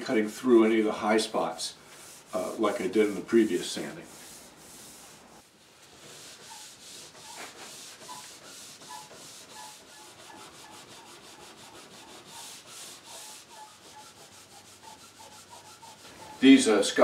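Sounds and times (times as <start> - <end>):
pad scrubbing wood: 1.9 - 16.5.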